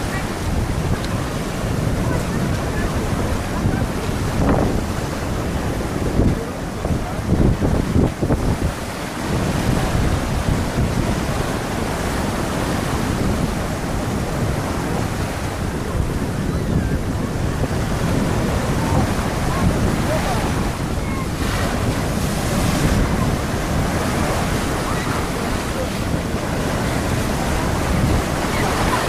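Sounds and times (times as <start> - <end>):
sea waves washing onto shore: 0.0 - 29.0
wind buffeting microphone: 0.0 - 29.0.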